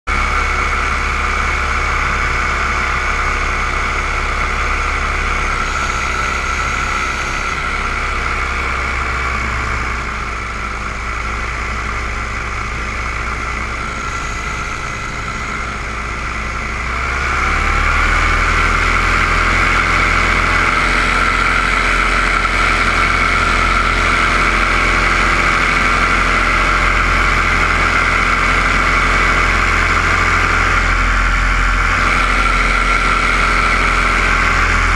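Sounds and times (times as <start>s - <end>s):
drone propellers whining: 0.1s - 34.9s.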